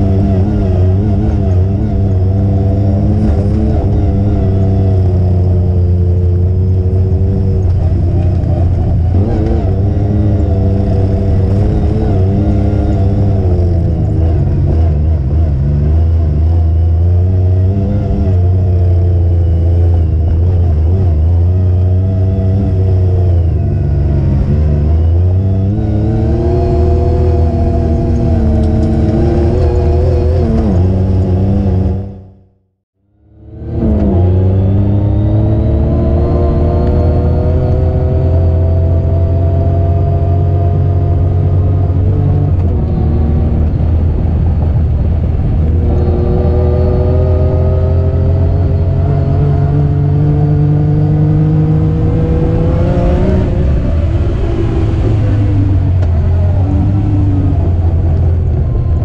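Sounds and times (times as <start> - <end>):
off-road vehicle engine revving: 0.0 - 32.5, 33.2 - 59.0.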